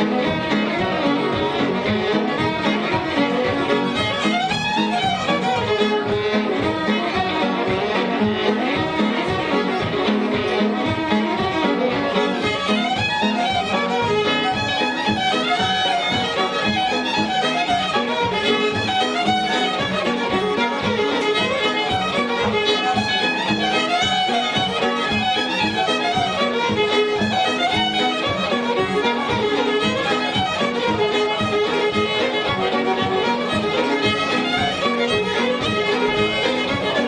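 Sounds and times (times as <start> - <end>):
fiddle-led instrumental music: 0.0 - 37.0.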